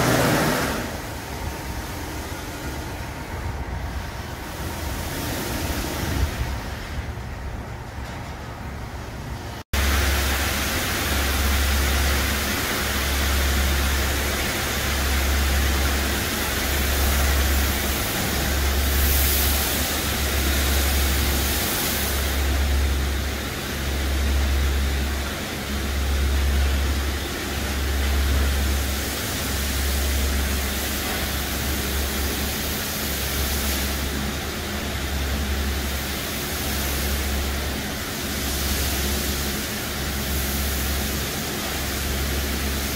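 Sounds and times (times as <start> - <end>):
spraying water hiss: 0.0 - 7.3, 9.4 - 42.9.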